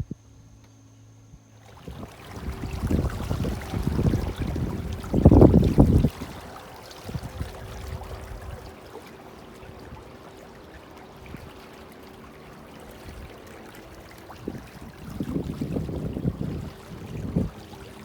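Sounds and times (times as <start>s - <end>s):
water lapping against hull: 1.6s - 18.0s.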